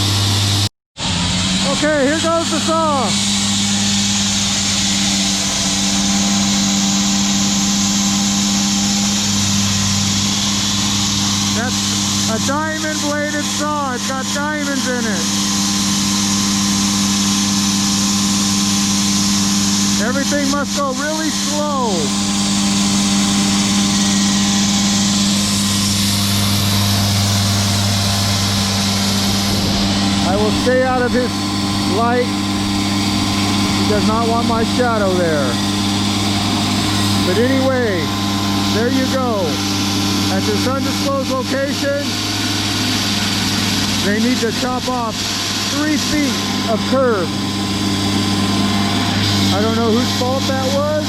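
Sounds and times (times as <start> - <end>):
concrete saw cutting: 0.0 - 51.0.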